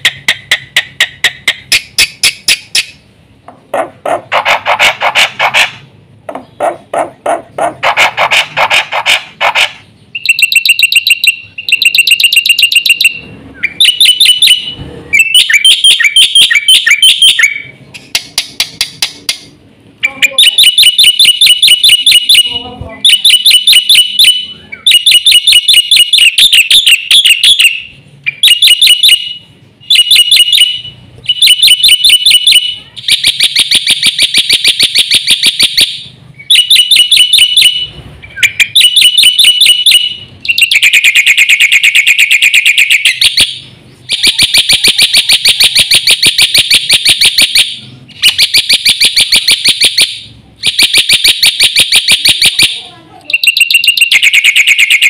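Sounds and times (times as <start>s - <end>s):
bird chattering song: 0.0s - 3.0s, 3.7s - 55.0s.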